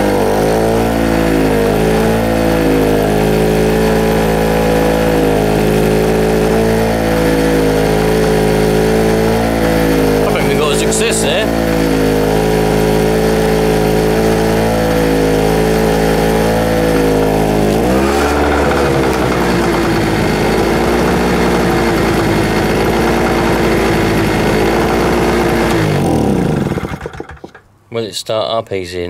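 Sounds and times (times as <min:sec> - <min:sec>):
small two-stroke generator running: 0:00.0 - 0:27.7.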